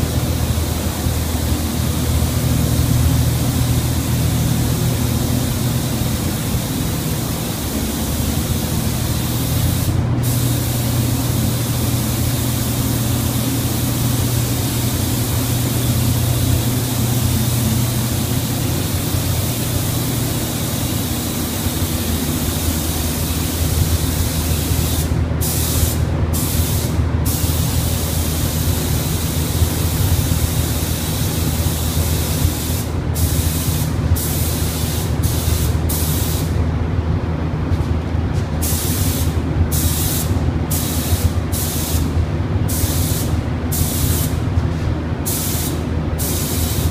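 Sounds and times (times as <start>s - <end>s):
spray gun hissing: 0.0s - 36.5s, 38.6s - 42.1s, 42.7s - 44.4s, 45.2s - 46.9s
steady low hum: 0.0s - 46.9s.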